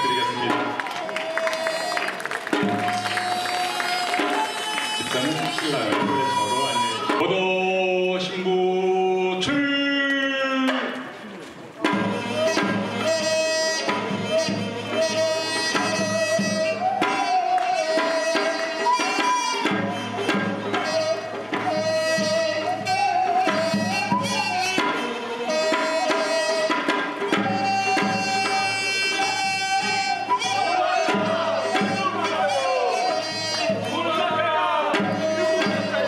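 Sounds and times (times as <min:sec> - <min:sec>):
drum strokes: 0:01.9 - 0:07.7, 0:11.8 - 0:36.0.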